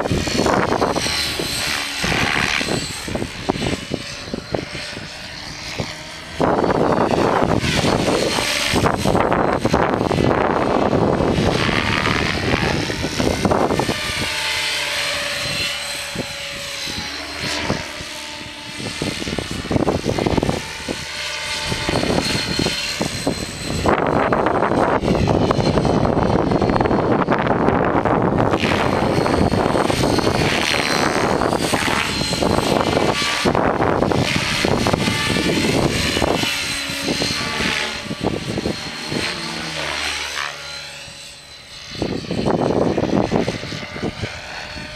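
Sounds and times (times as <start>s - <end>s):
rc helicopter whine: 0.0s - 44.9s
wind buffeting microphone: 0.0s - 44.9s.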